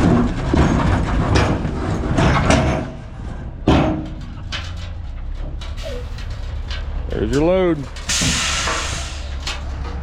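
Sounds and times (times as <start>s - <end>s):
boulders crashing: 0.0s - 8.4s
truck engine rumble: 0.0s - 10.0s.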